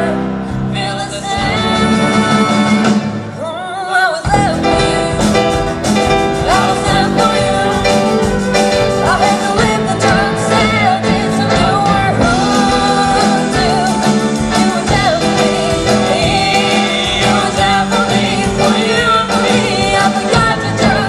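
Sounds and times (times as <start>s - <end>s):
live pop-rock band playing: 0.0s - 21.0s
person singing: 0.0s - 21.0s.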